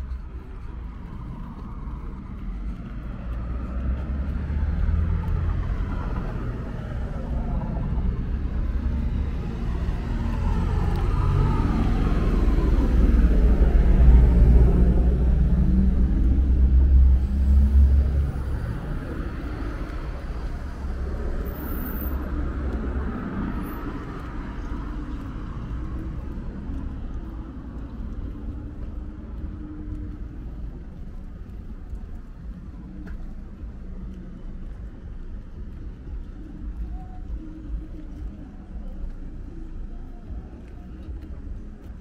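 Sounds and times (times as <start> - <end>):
passing cars: 0.0 - 42.0.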